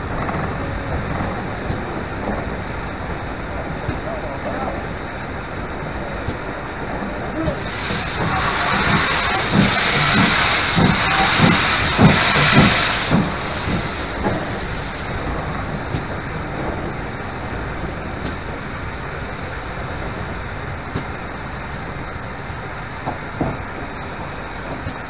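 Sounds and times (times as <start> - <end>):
steam locomotive hissing: 0.0 - 25.0
steam locomotive running: 0.0 - 25.0.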